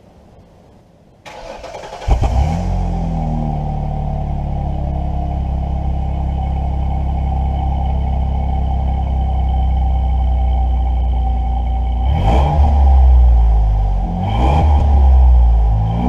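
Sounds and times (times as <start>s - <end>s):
car engine revving and idling: 1.3s - 16.0s.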